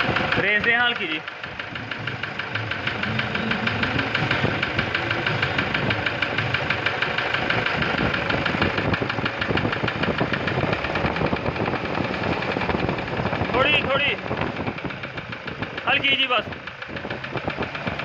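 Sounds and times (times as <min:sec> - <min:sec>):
diesel engine knocking: 0:00.0 - 0:18.0.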